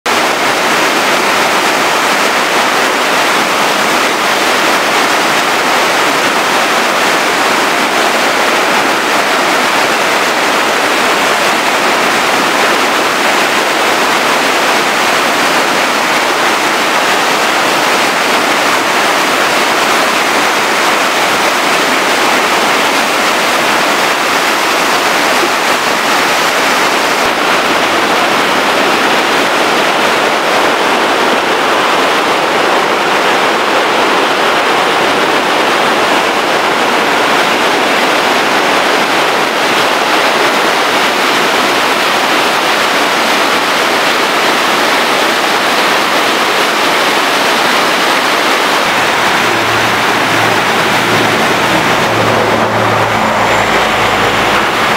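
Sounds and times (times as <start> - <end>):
stream water rushing: 0.1 - 54.9.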